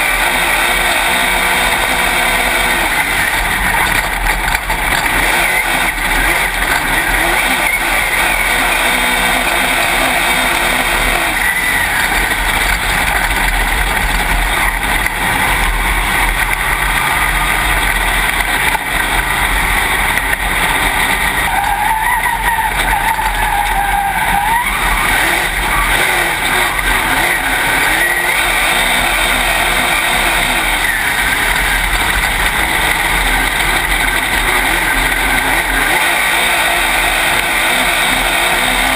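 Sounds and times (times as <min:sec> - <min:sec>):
car roaring on dirt track: 0:00.0 - 0:38.9
race car engine revving: 0:00.0 - 0:38.9.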